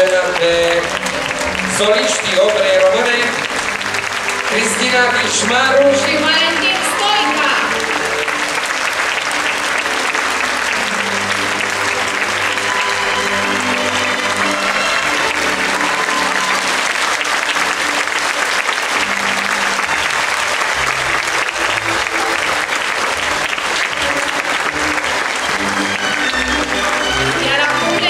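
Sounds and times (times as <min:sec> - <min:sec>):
audience applauding: 0:00.0 - 0:28.0
music playing: 0:00.0 - 0:28.0.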